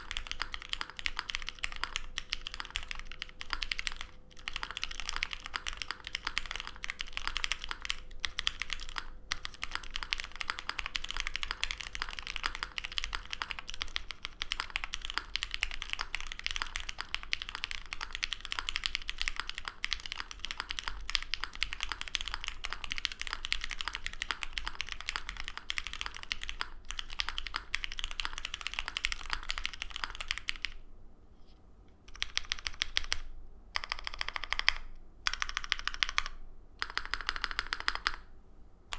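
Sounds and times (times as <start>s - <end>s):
fast typing on mechanical keyboard: 0.0s - 30.8s, 32.1s - 38.3s.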